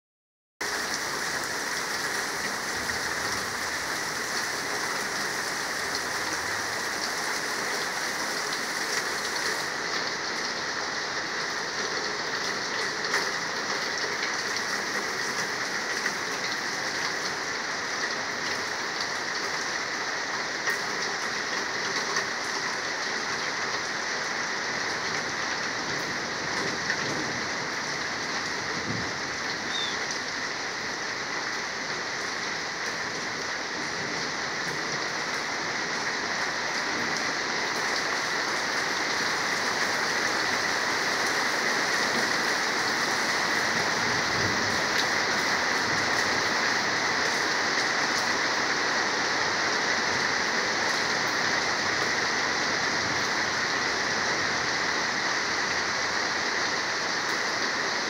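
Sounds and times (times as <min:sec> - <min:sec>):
heavy rain on foliage: 0:00.6 - 0:58.0.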